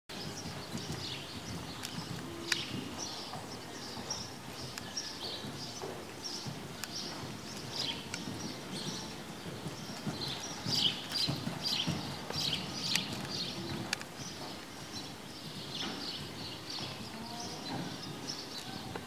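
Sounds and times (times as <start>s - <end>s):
horse hooves trotting on sand: 0.1s - 19.0s.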